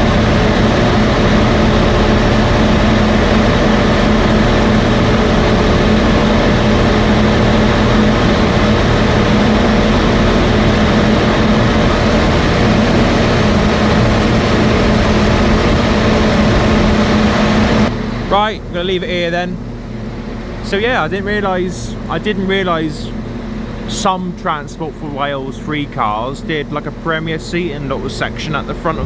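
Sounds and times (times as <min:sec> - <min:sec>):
train diesel engine running: 0:00.0 - 0:29.0.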